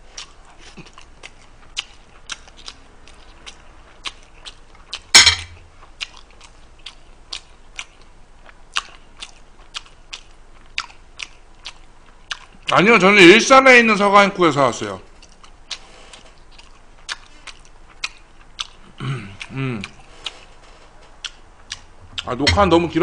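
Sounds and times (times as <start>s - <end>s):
man chewing food: 0.0s - 12.7s, 15.1s - 23.0s.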